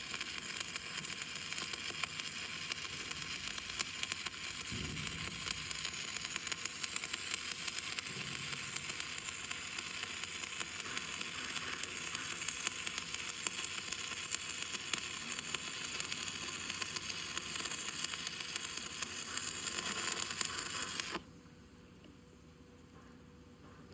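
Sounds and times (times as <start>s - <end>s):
welding arc crackling sizzle: 0.0s - 21.3s.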